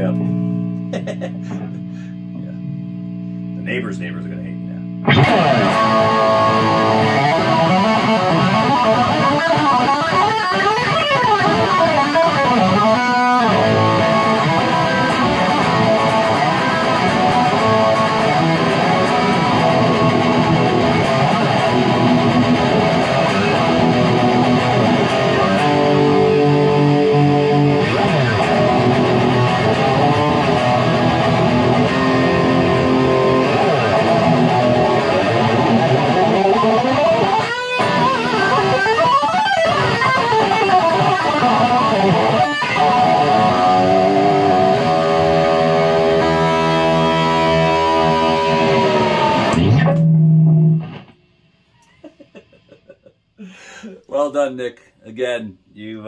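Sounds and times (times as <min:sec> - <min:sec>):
overdriven electric guitar: 0:04.9 - 0:53.0.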